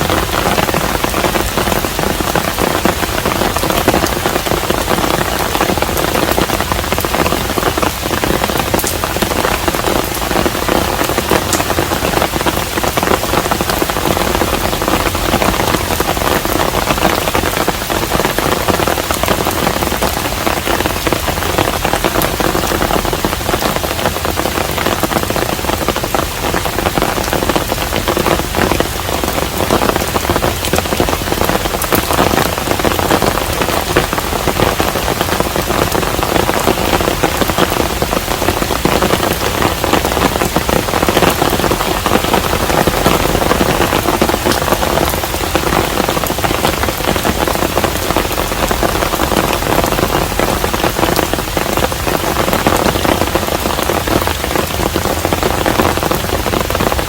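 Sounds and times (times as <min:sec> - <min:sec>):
raindrop hits ticking: 0:00.0 - 0:57.0
steady rain hiss: 0:00.0 - 0:57.0.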